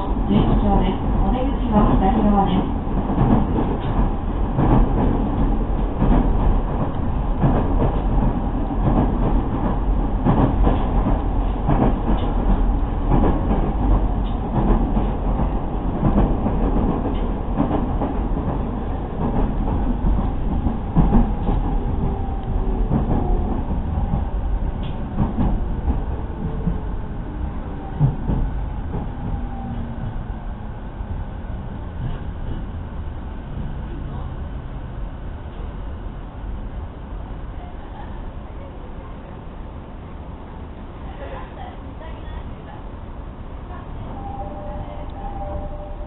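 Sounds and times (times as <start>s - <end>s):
train interior rumble: 0.0s - 46.0s.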